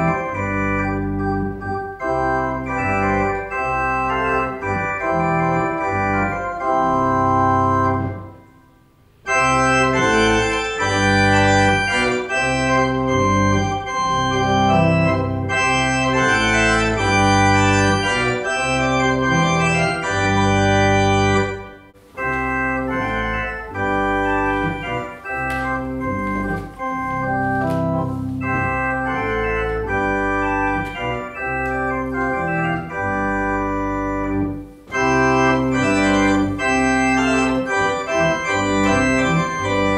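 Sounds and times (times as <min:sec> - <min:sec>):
pipe organ chords: 0:00.0 - 0:39.9.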